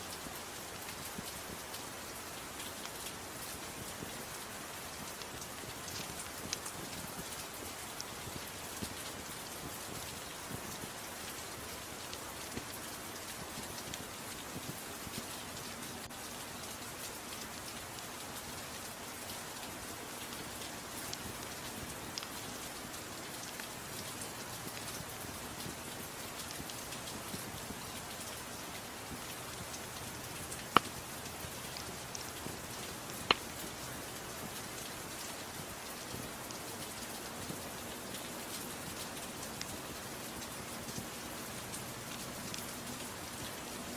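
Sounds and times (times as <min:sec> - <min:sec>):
fireplace fire crackling: 0:00.0 - 0:43.9
steady rain: 0:00.0 - 0:43.9.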